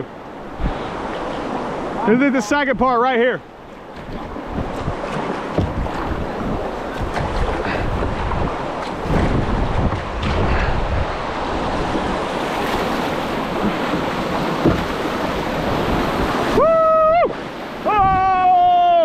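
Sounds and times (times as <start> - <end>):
river rapids roaring: 0.0 - 19.0
wind buffeting microphone: 0.4 - 2.0, 3.6 - 18.8.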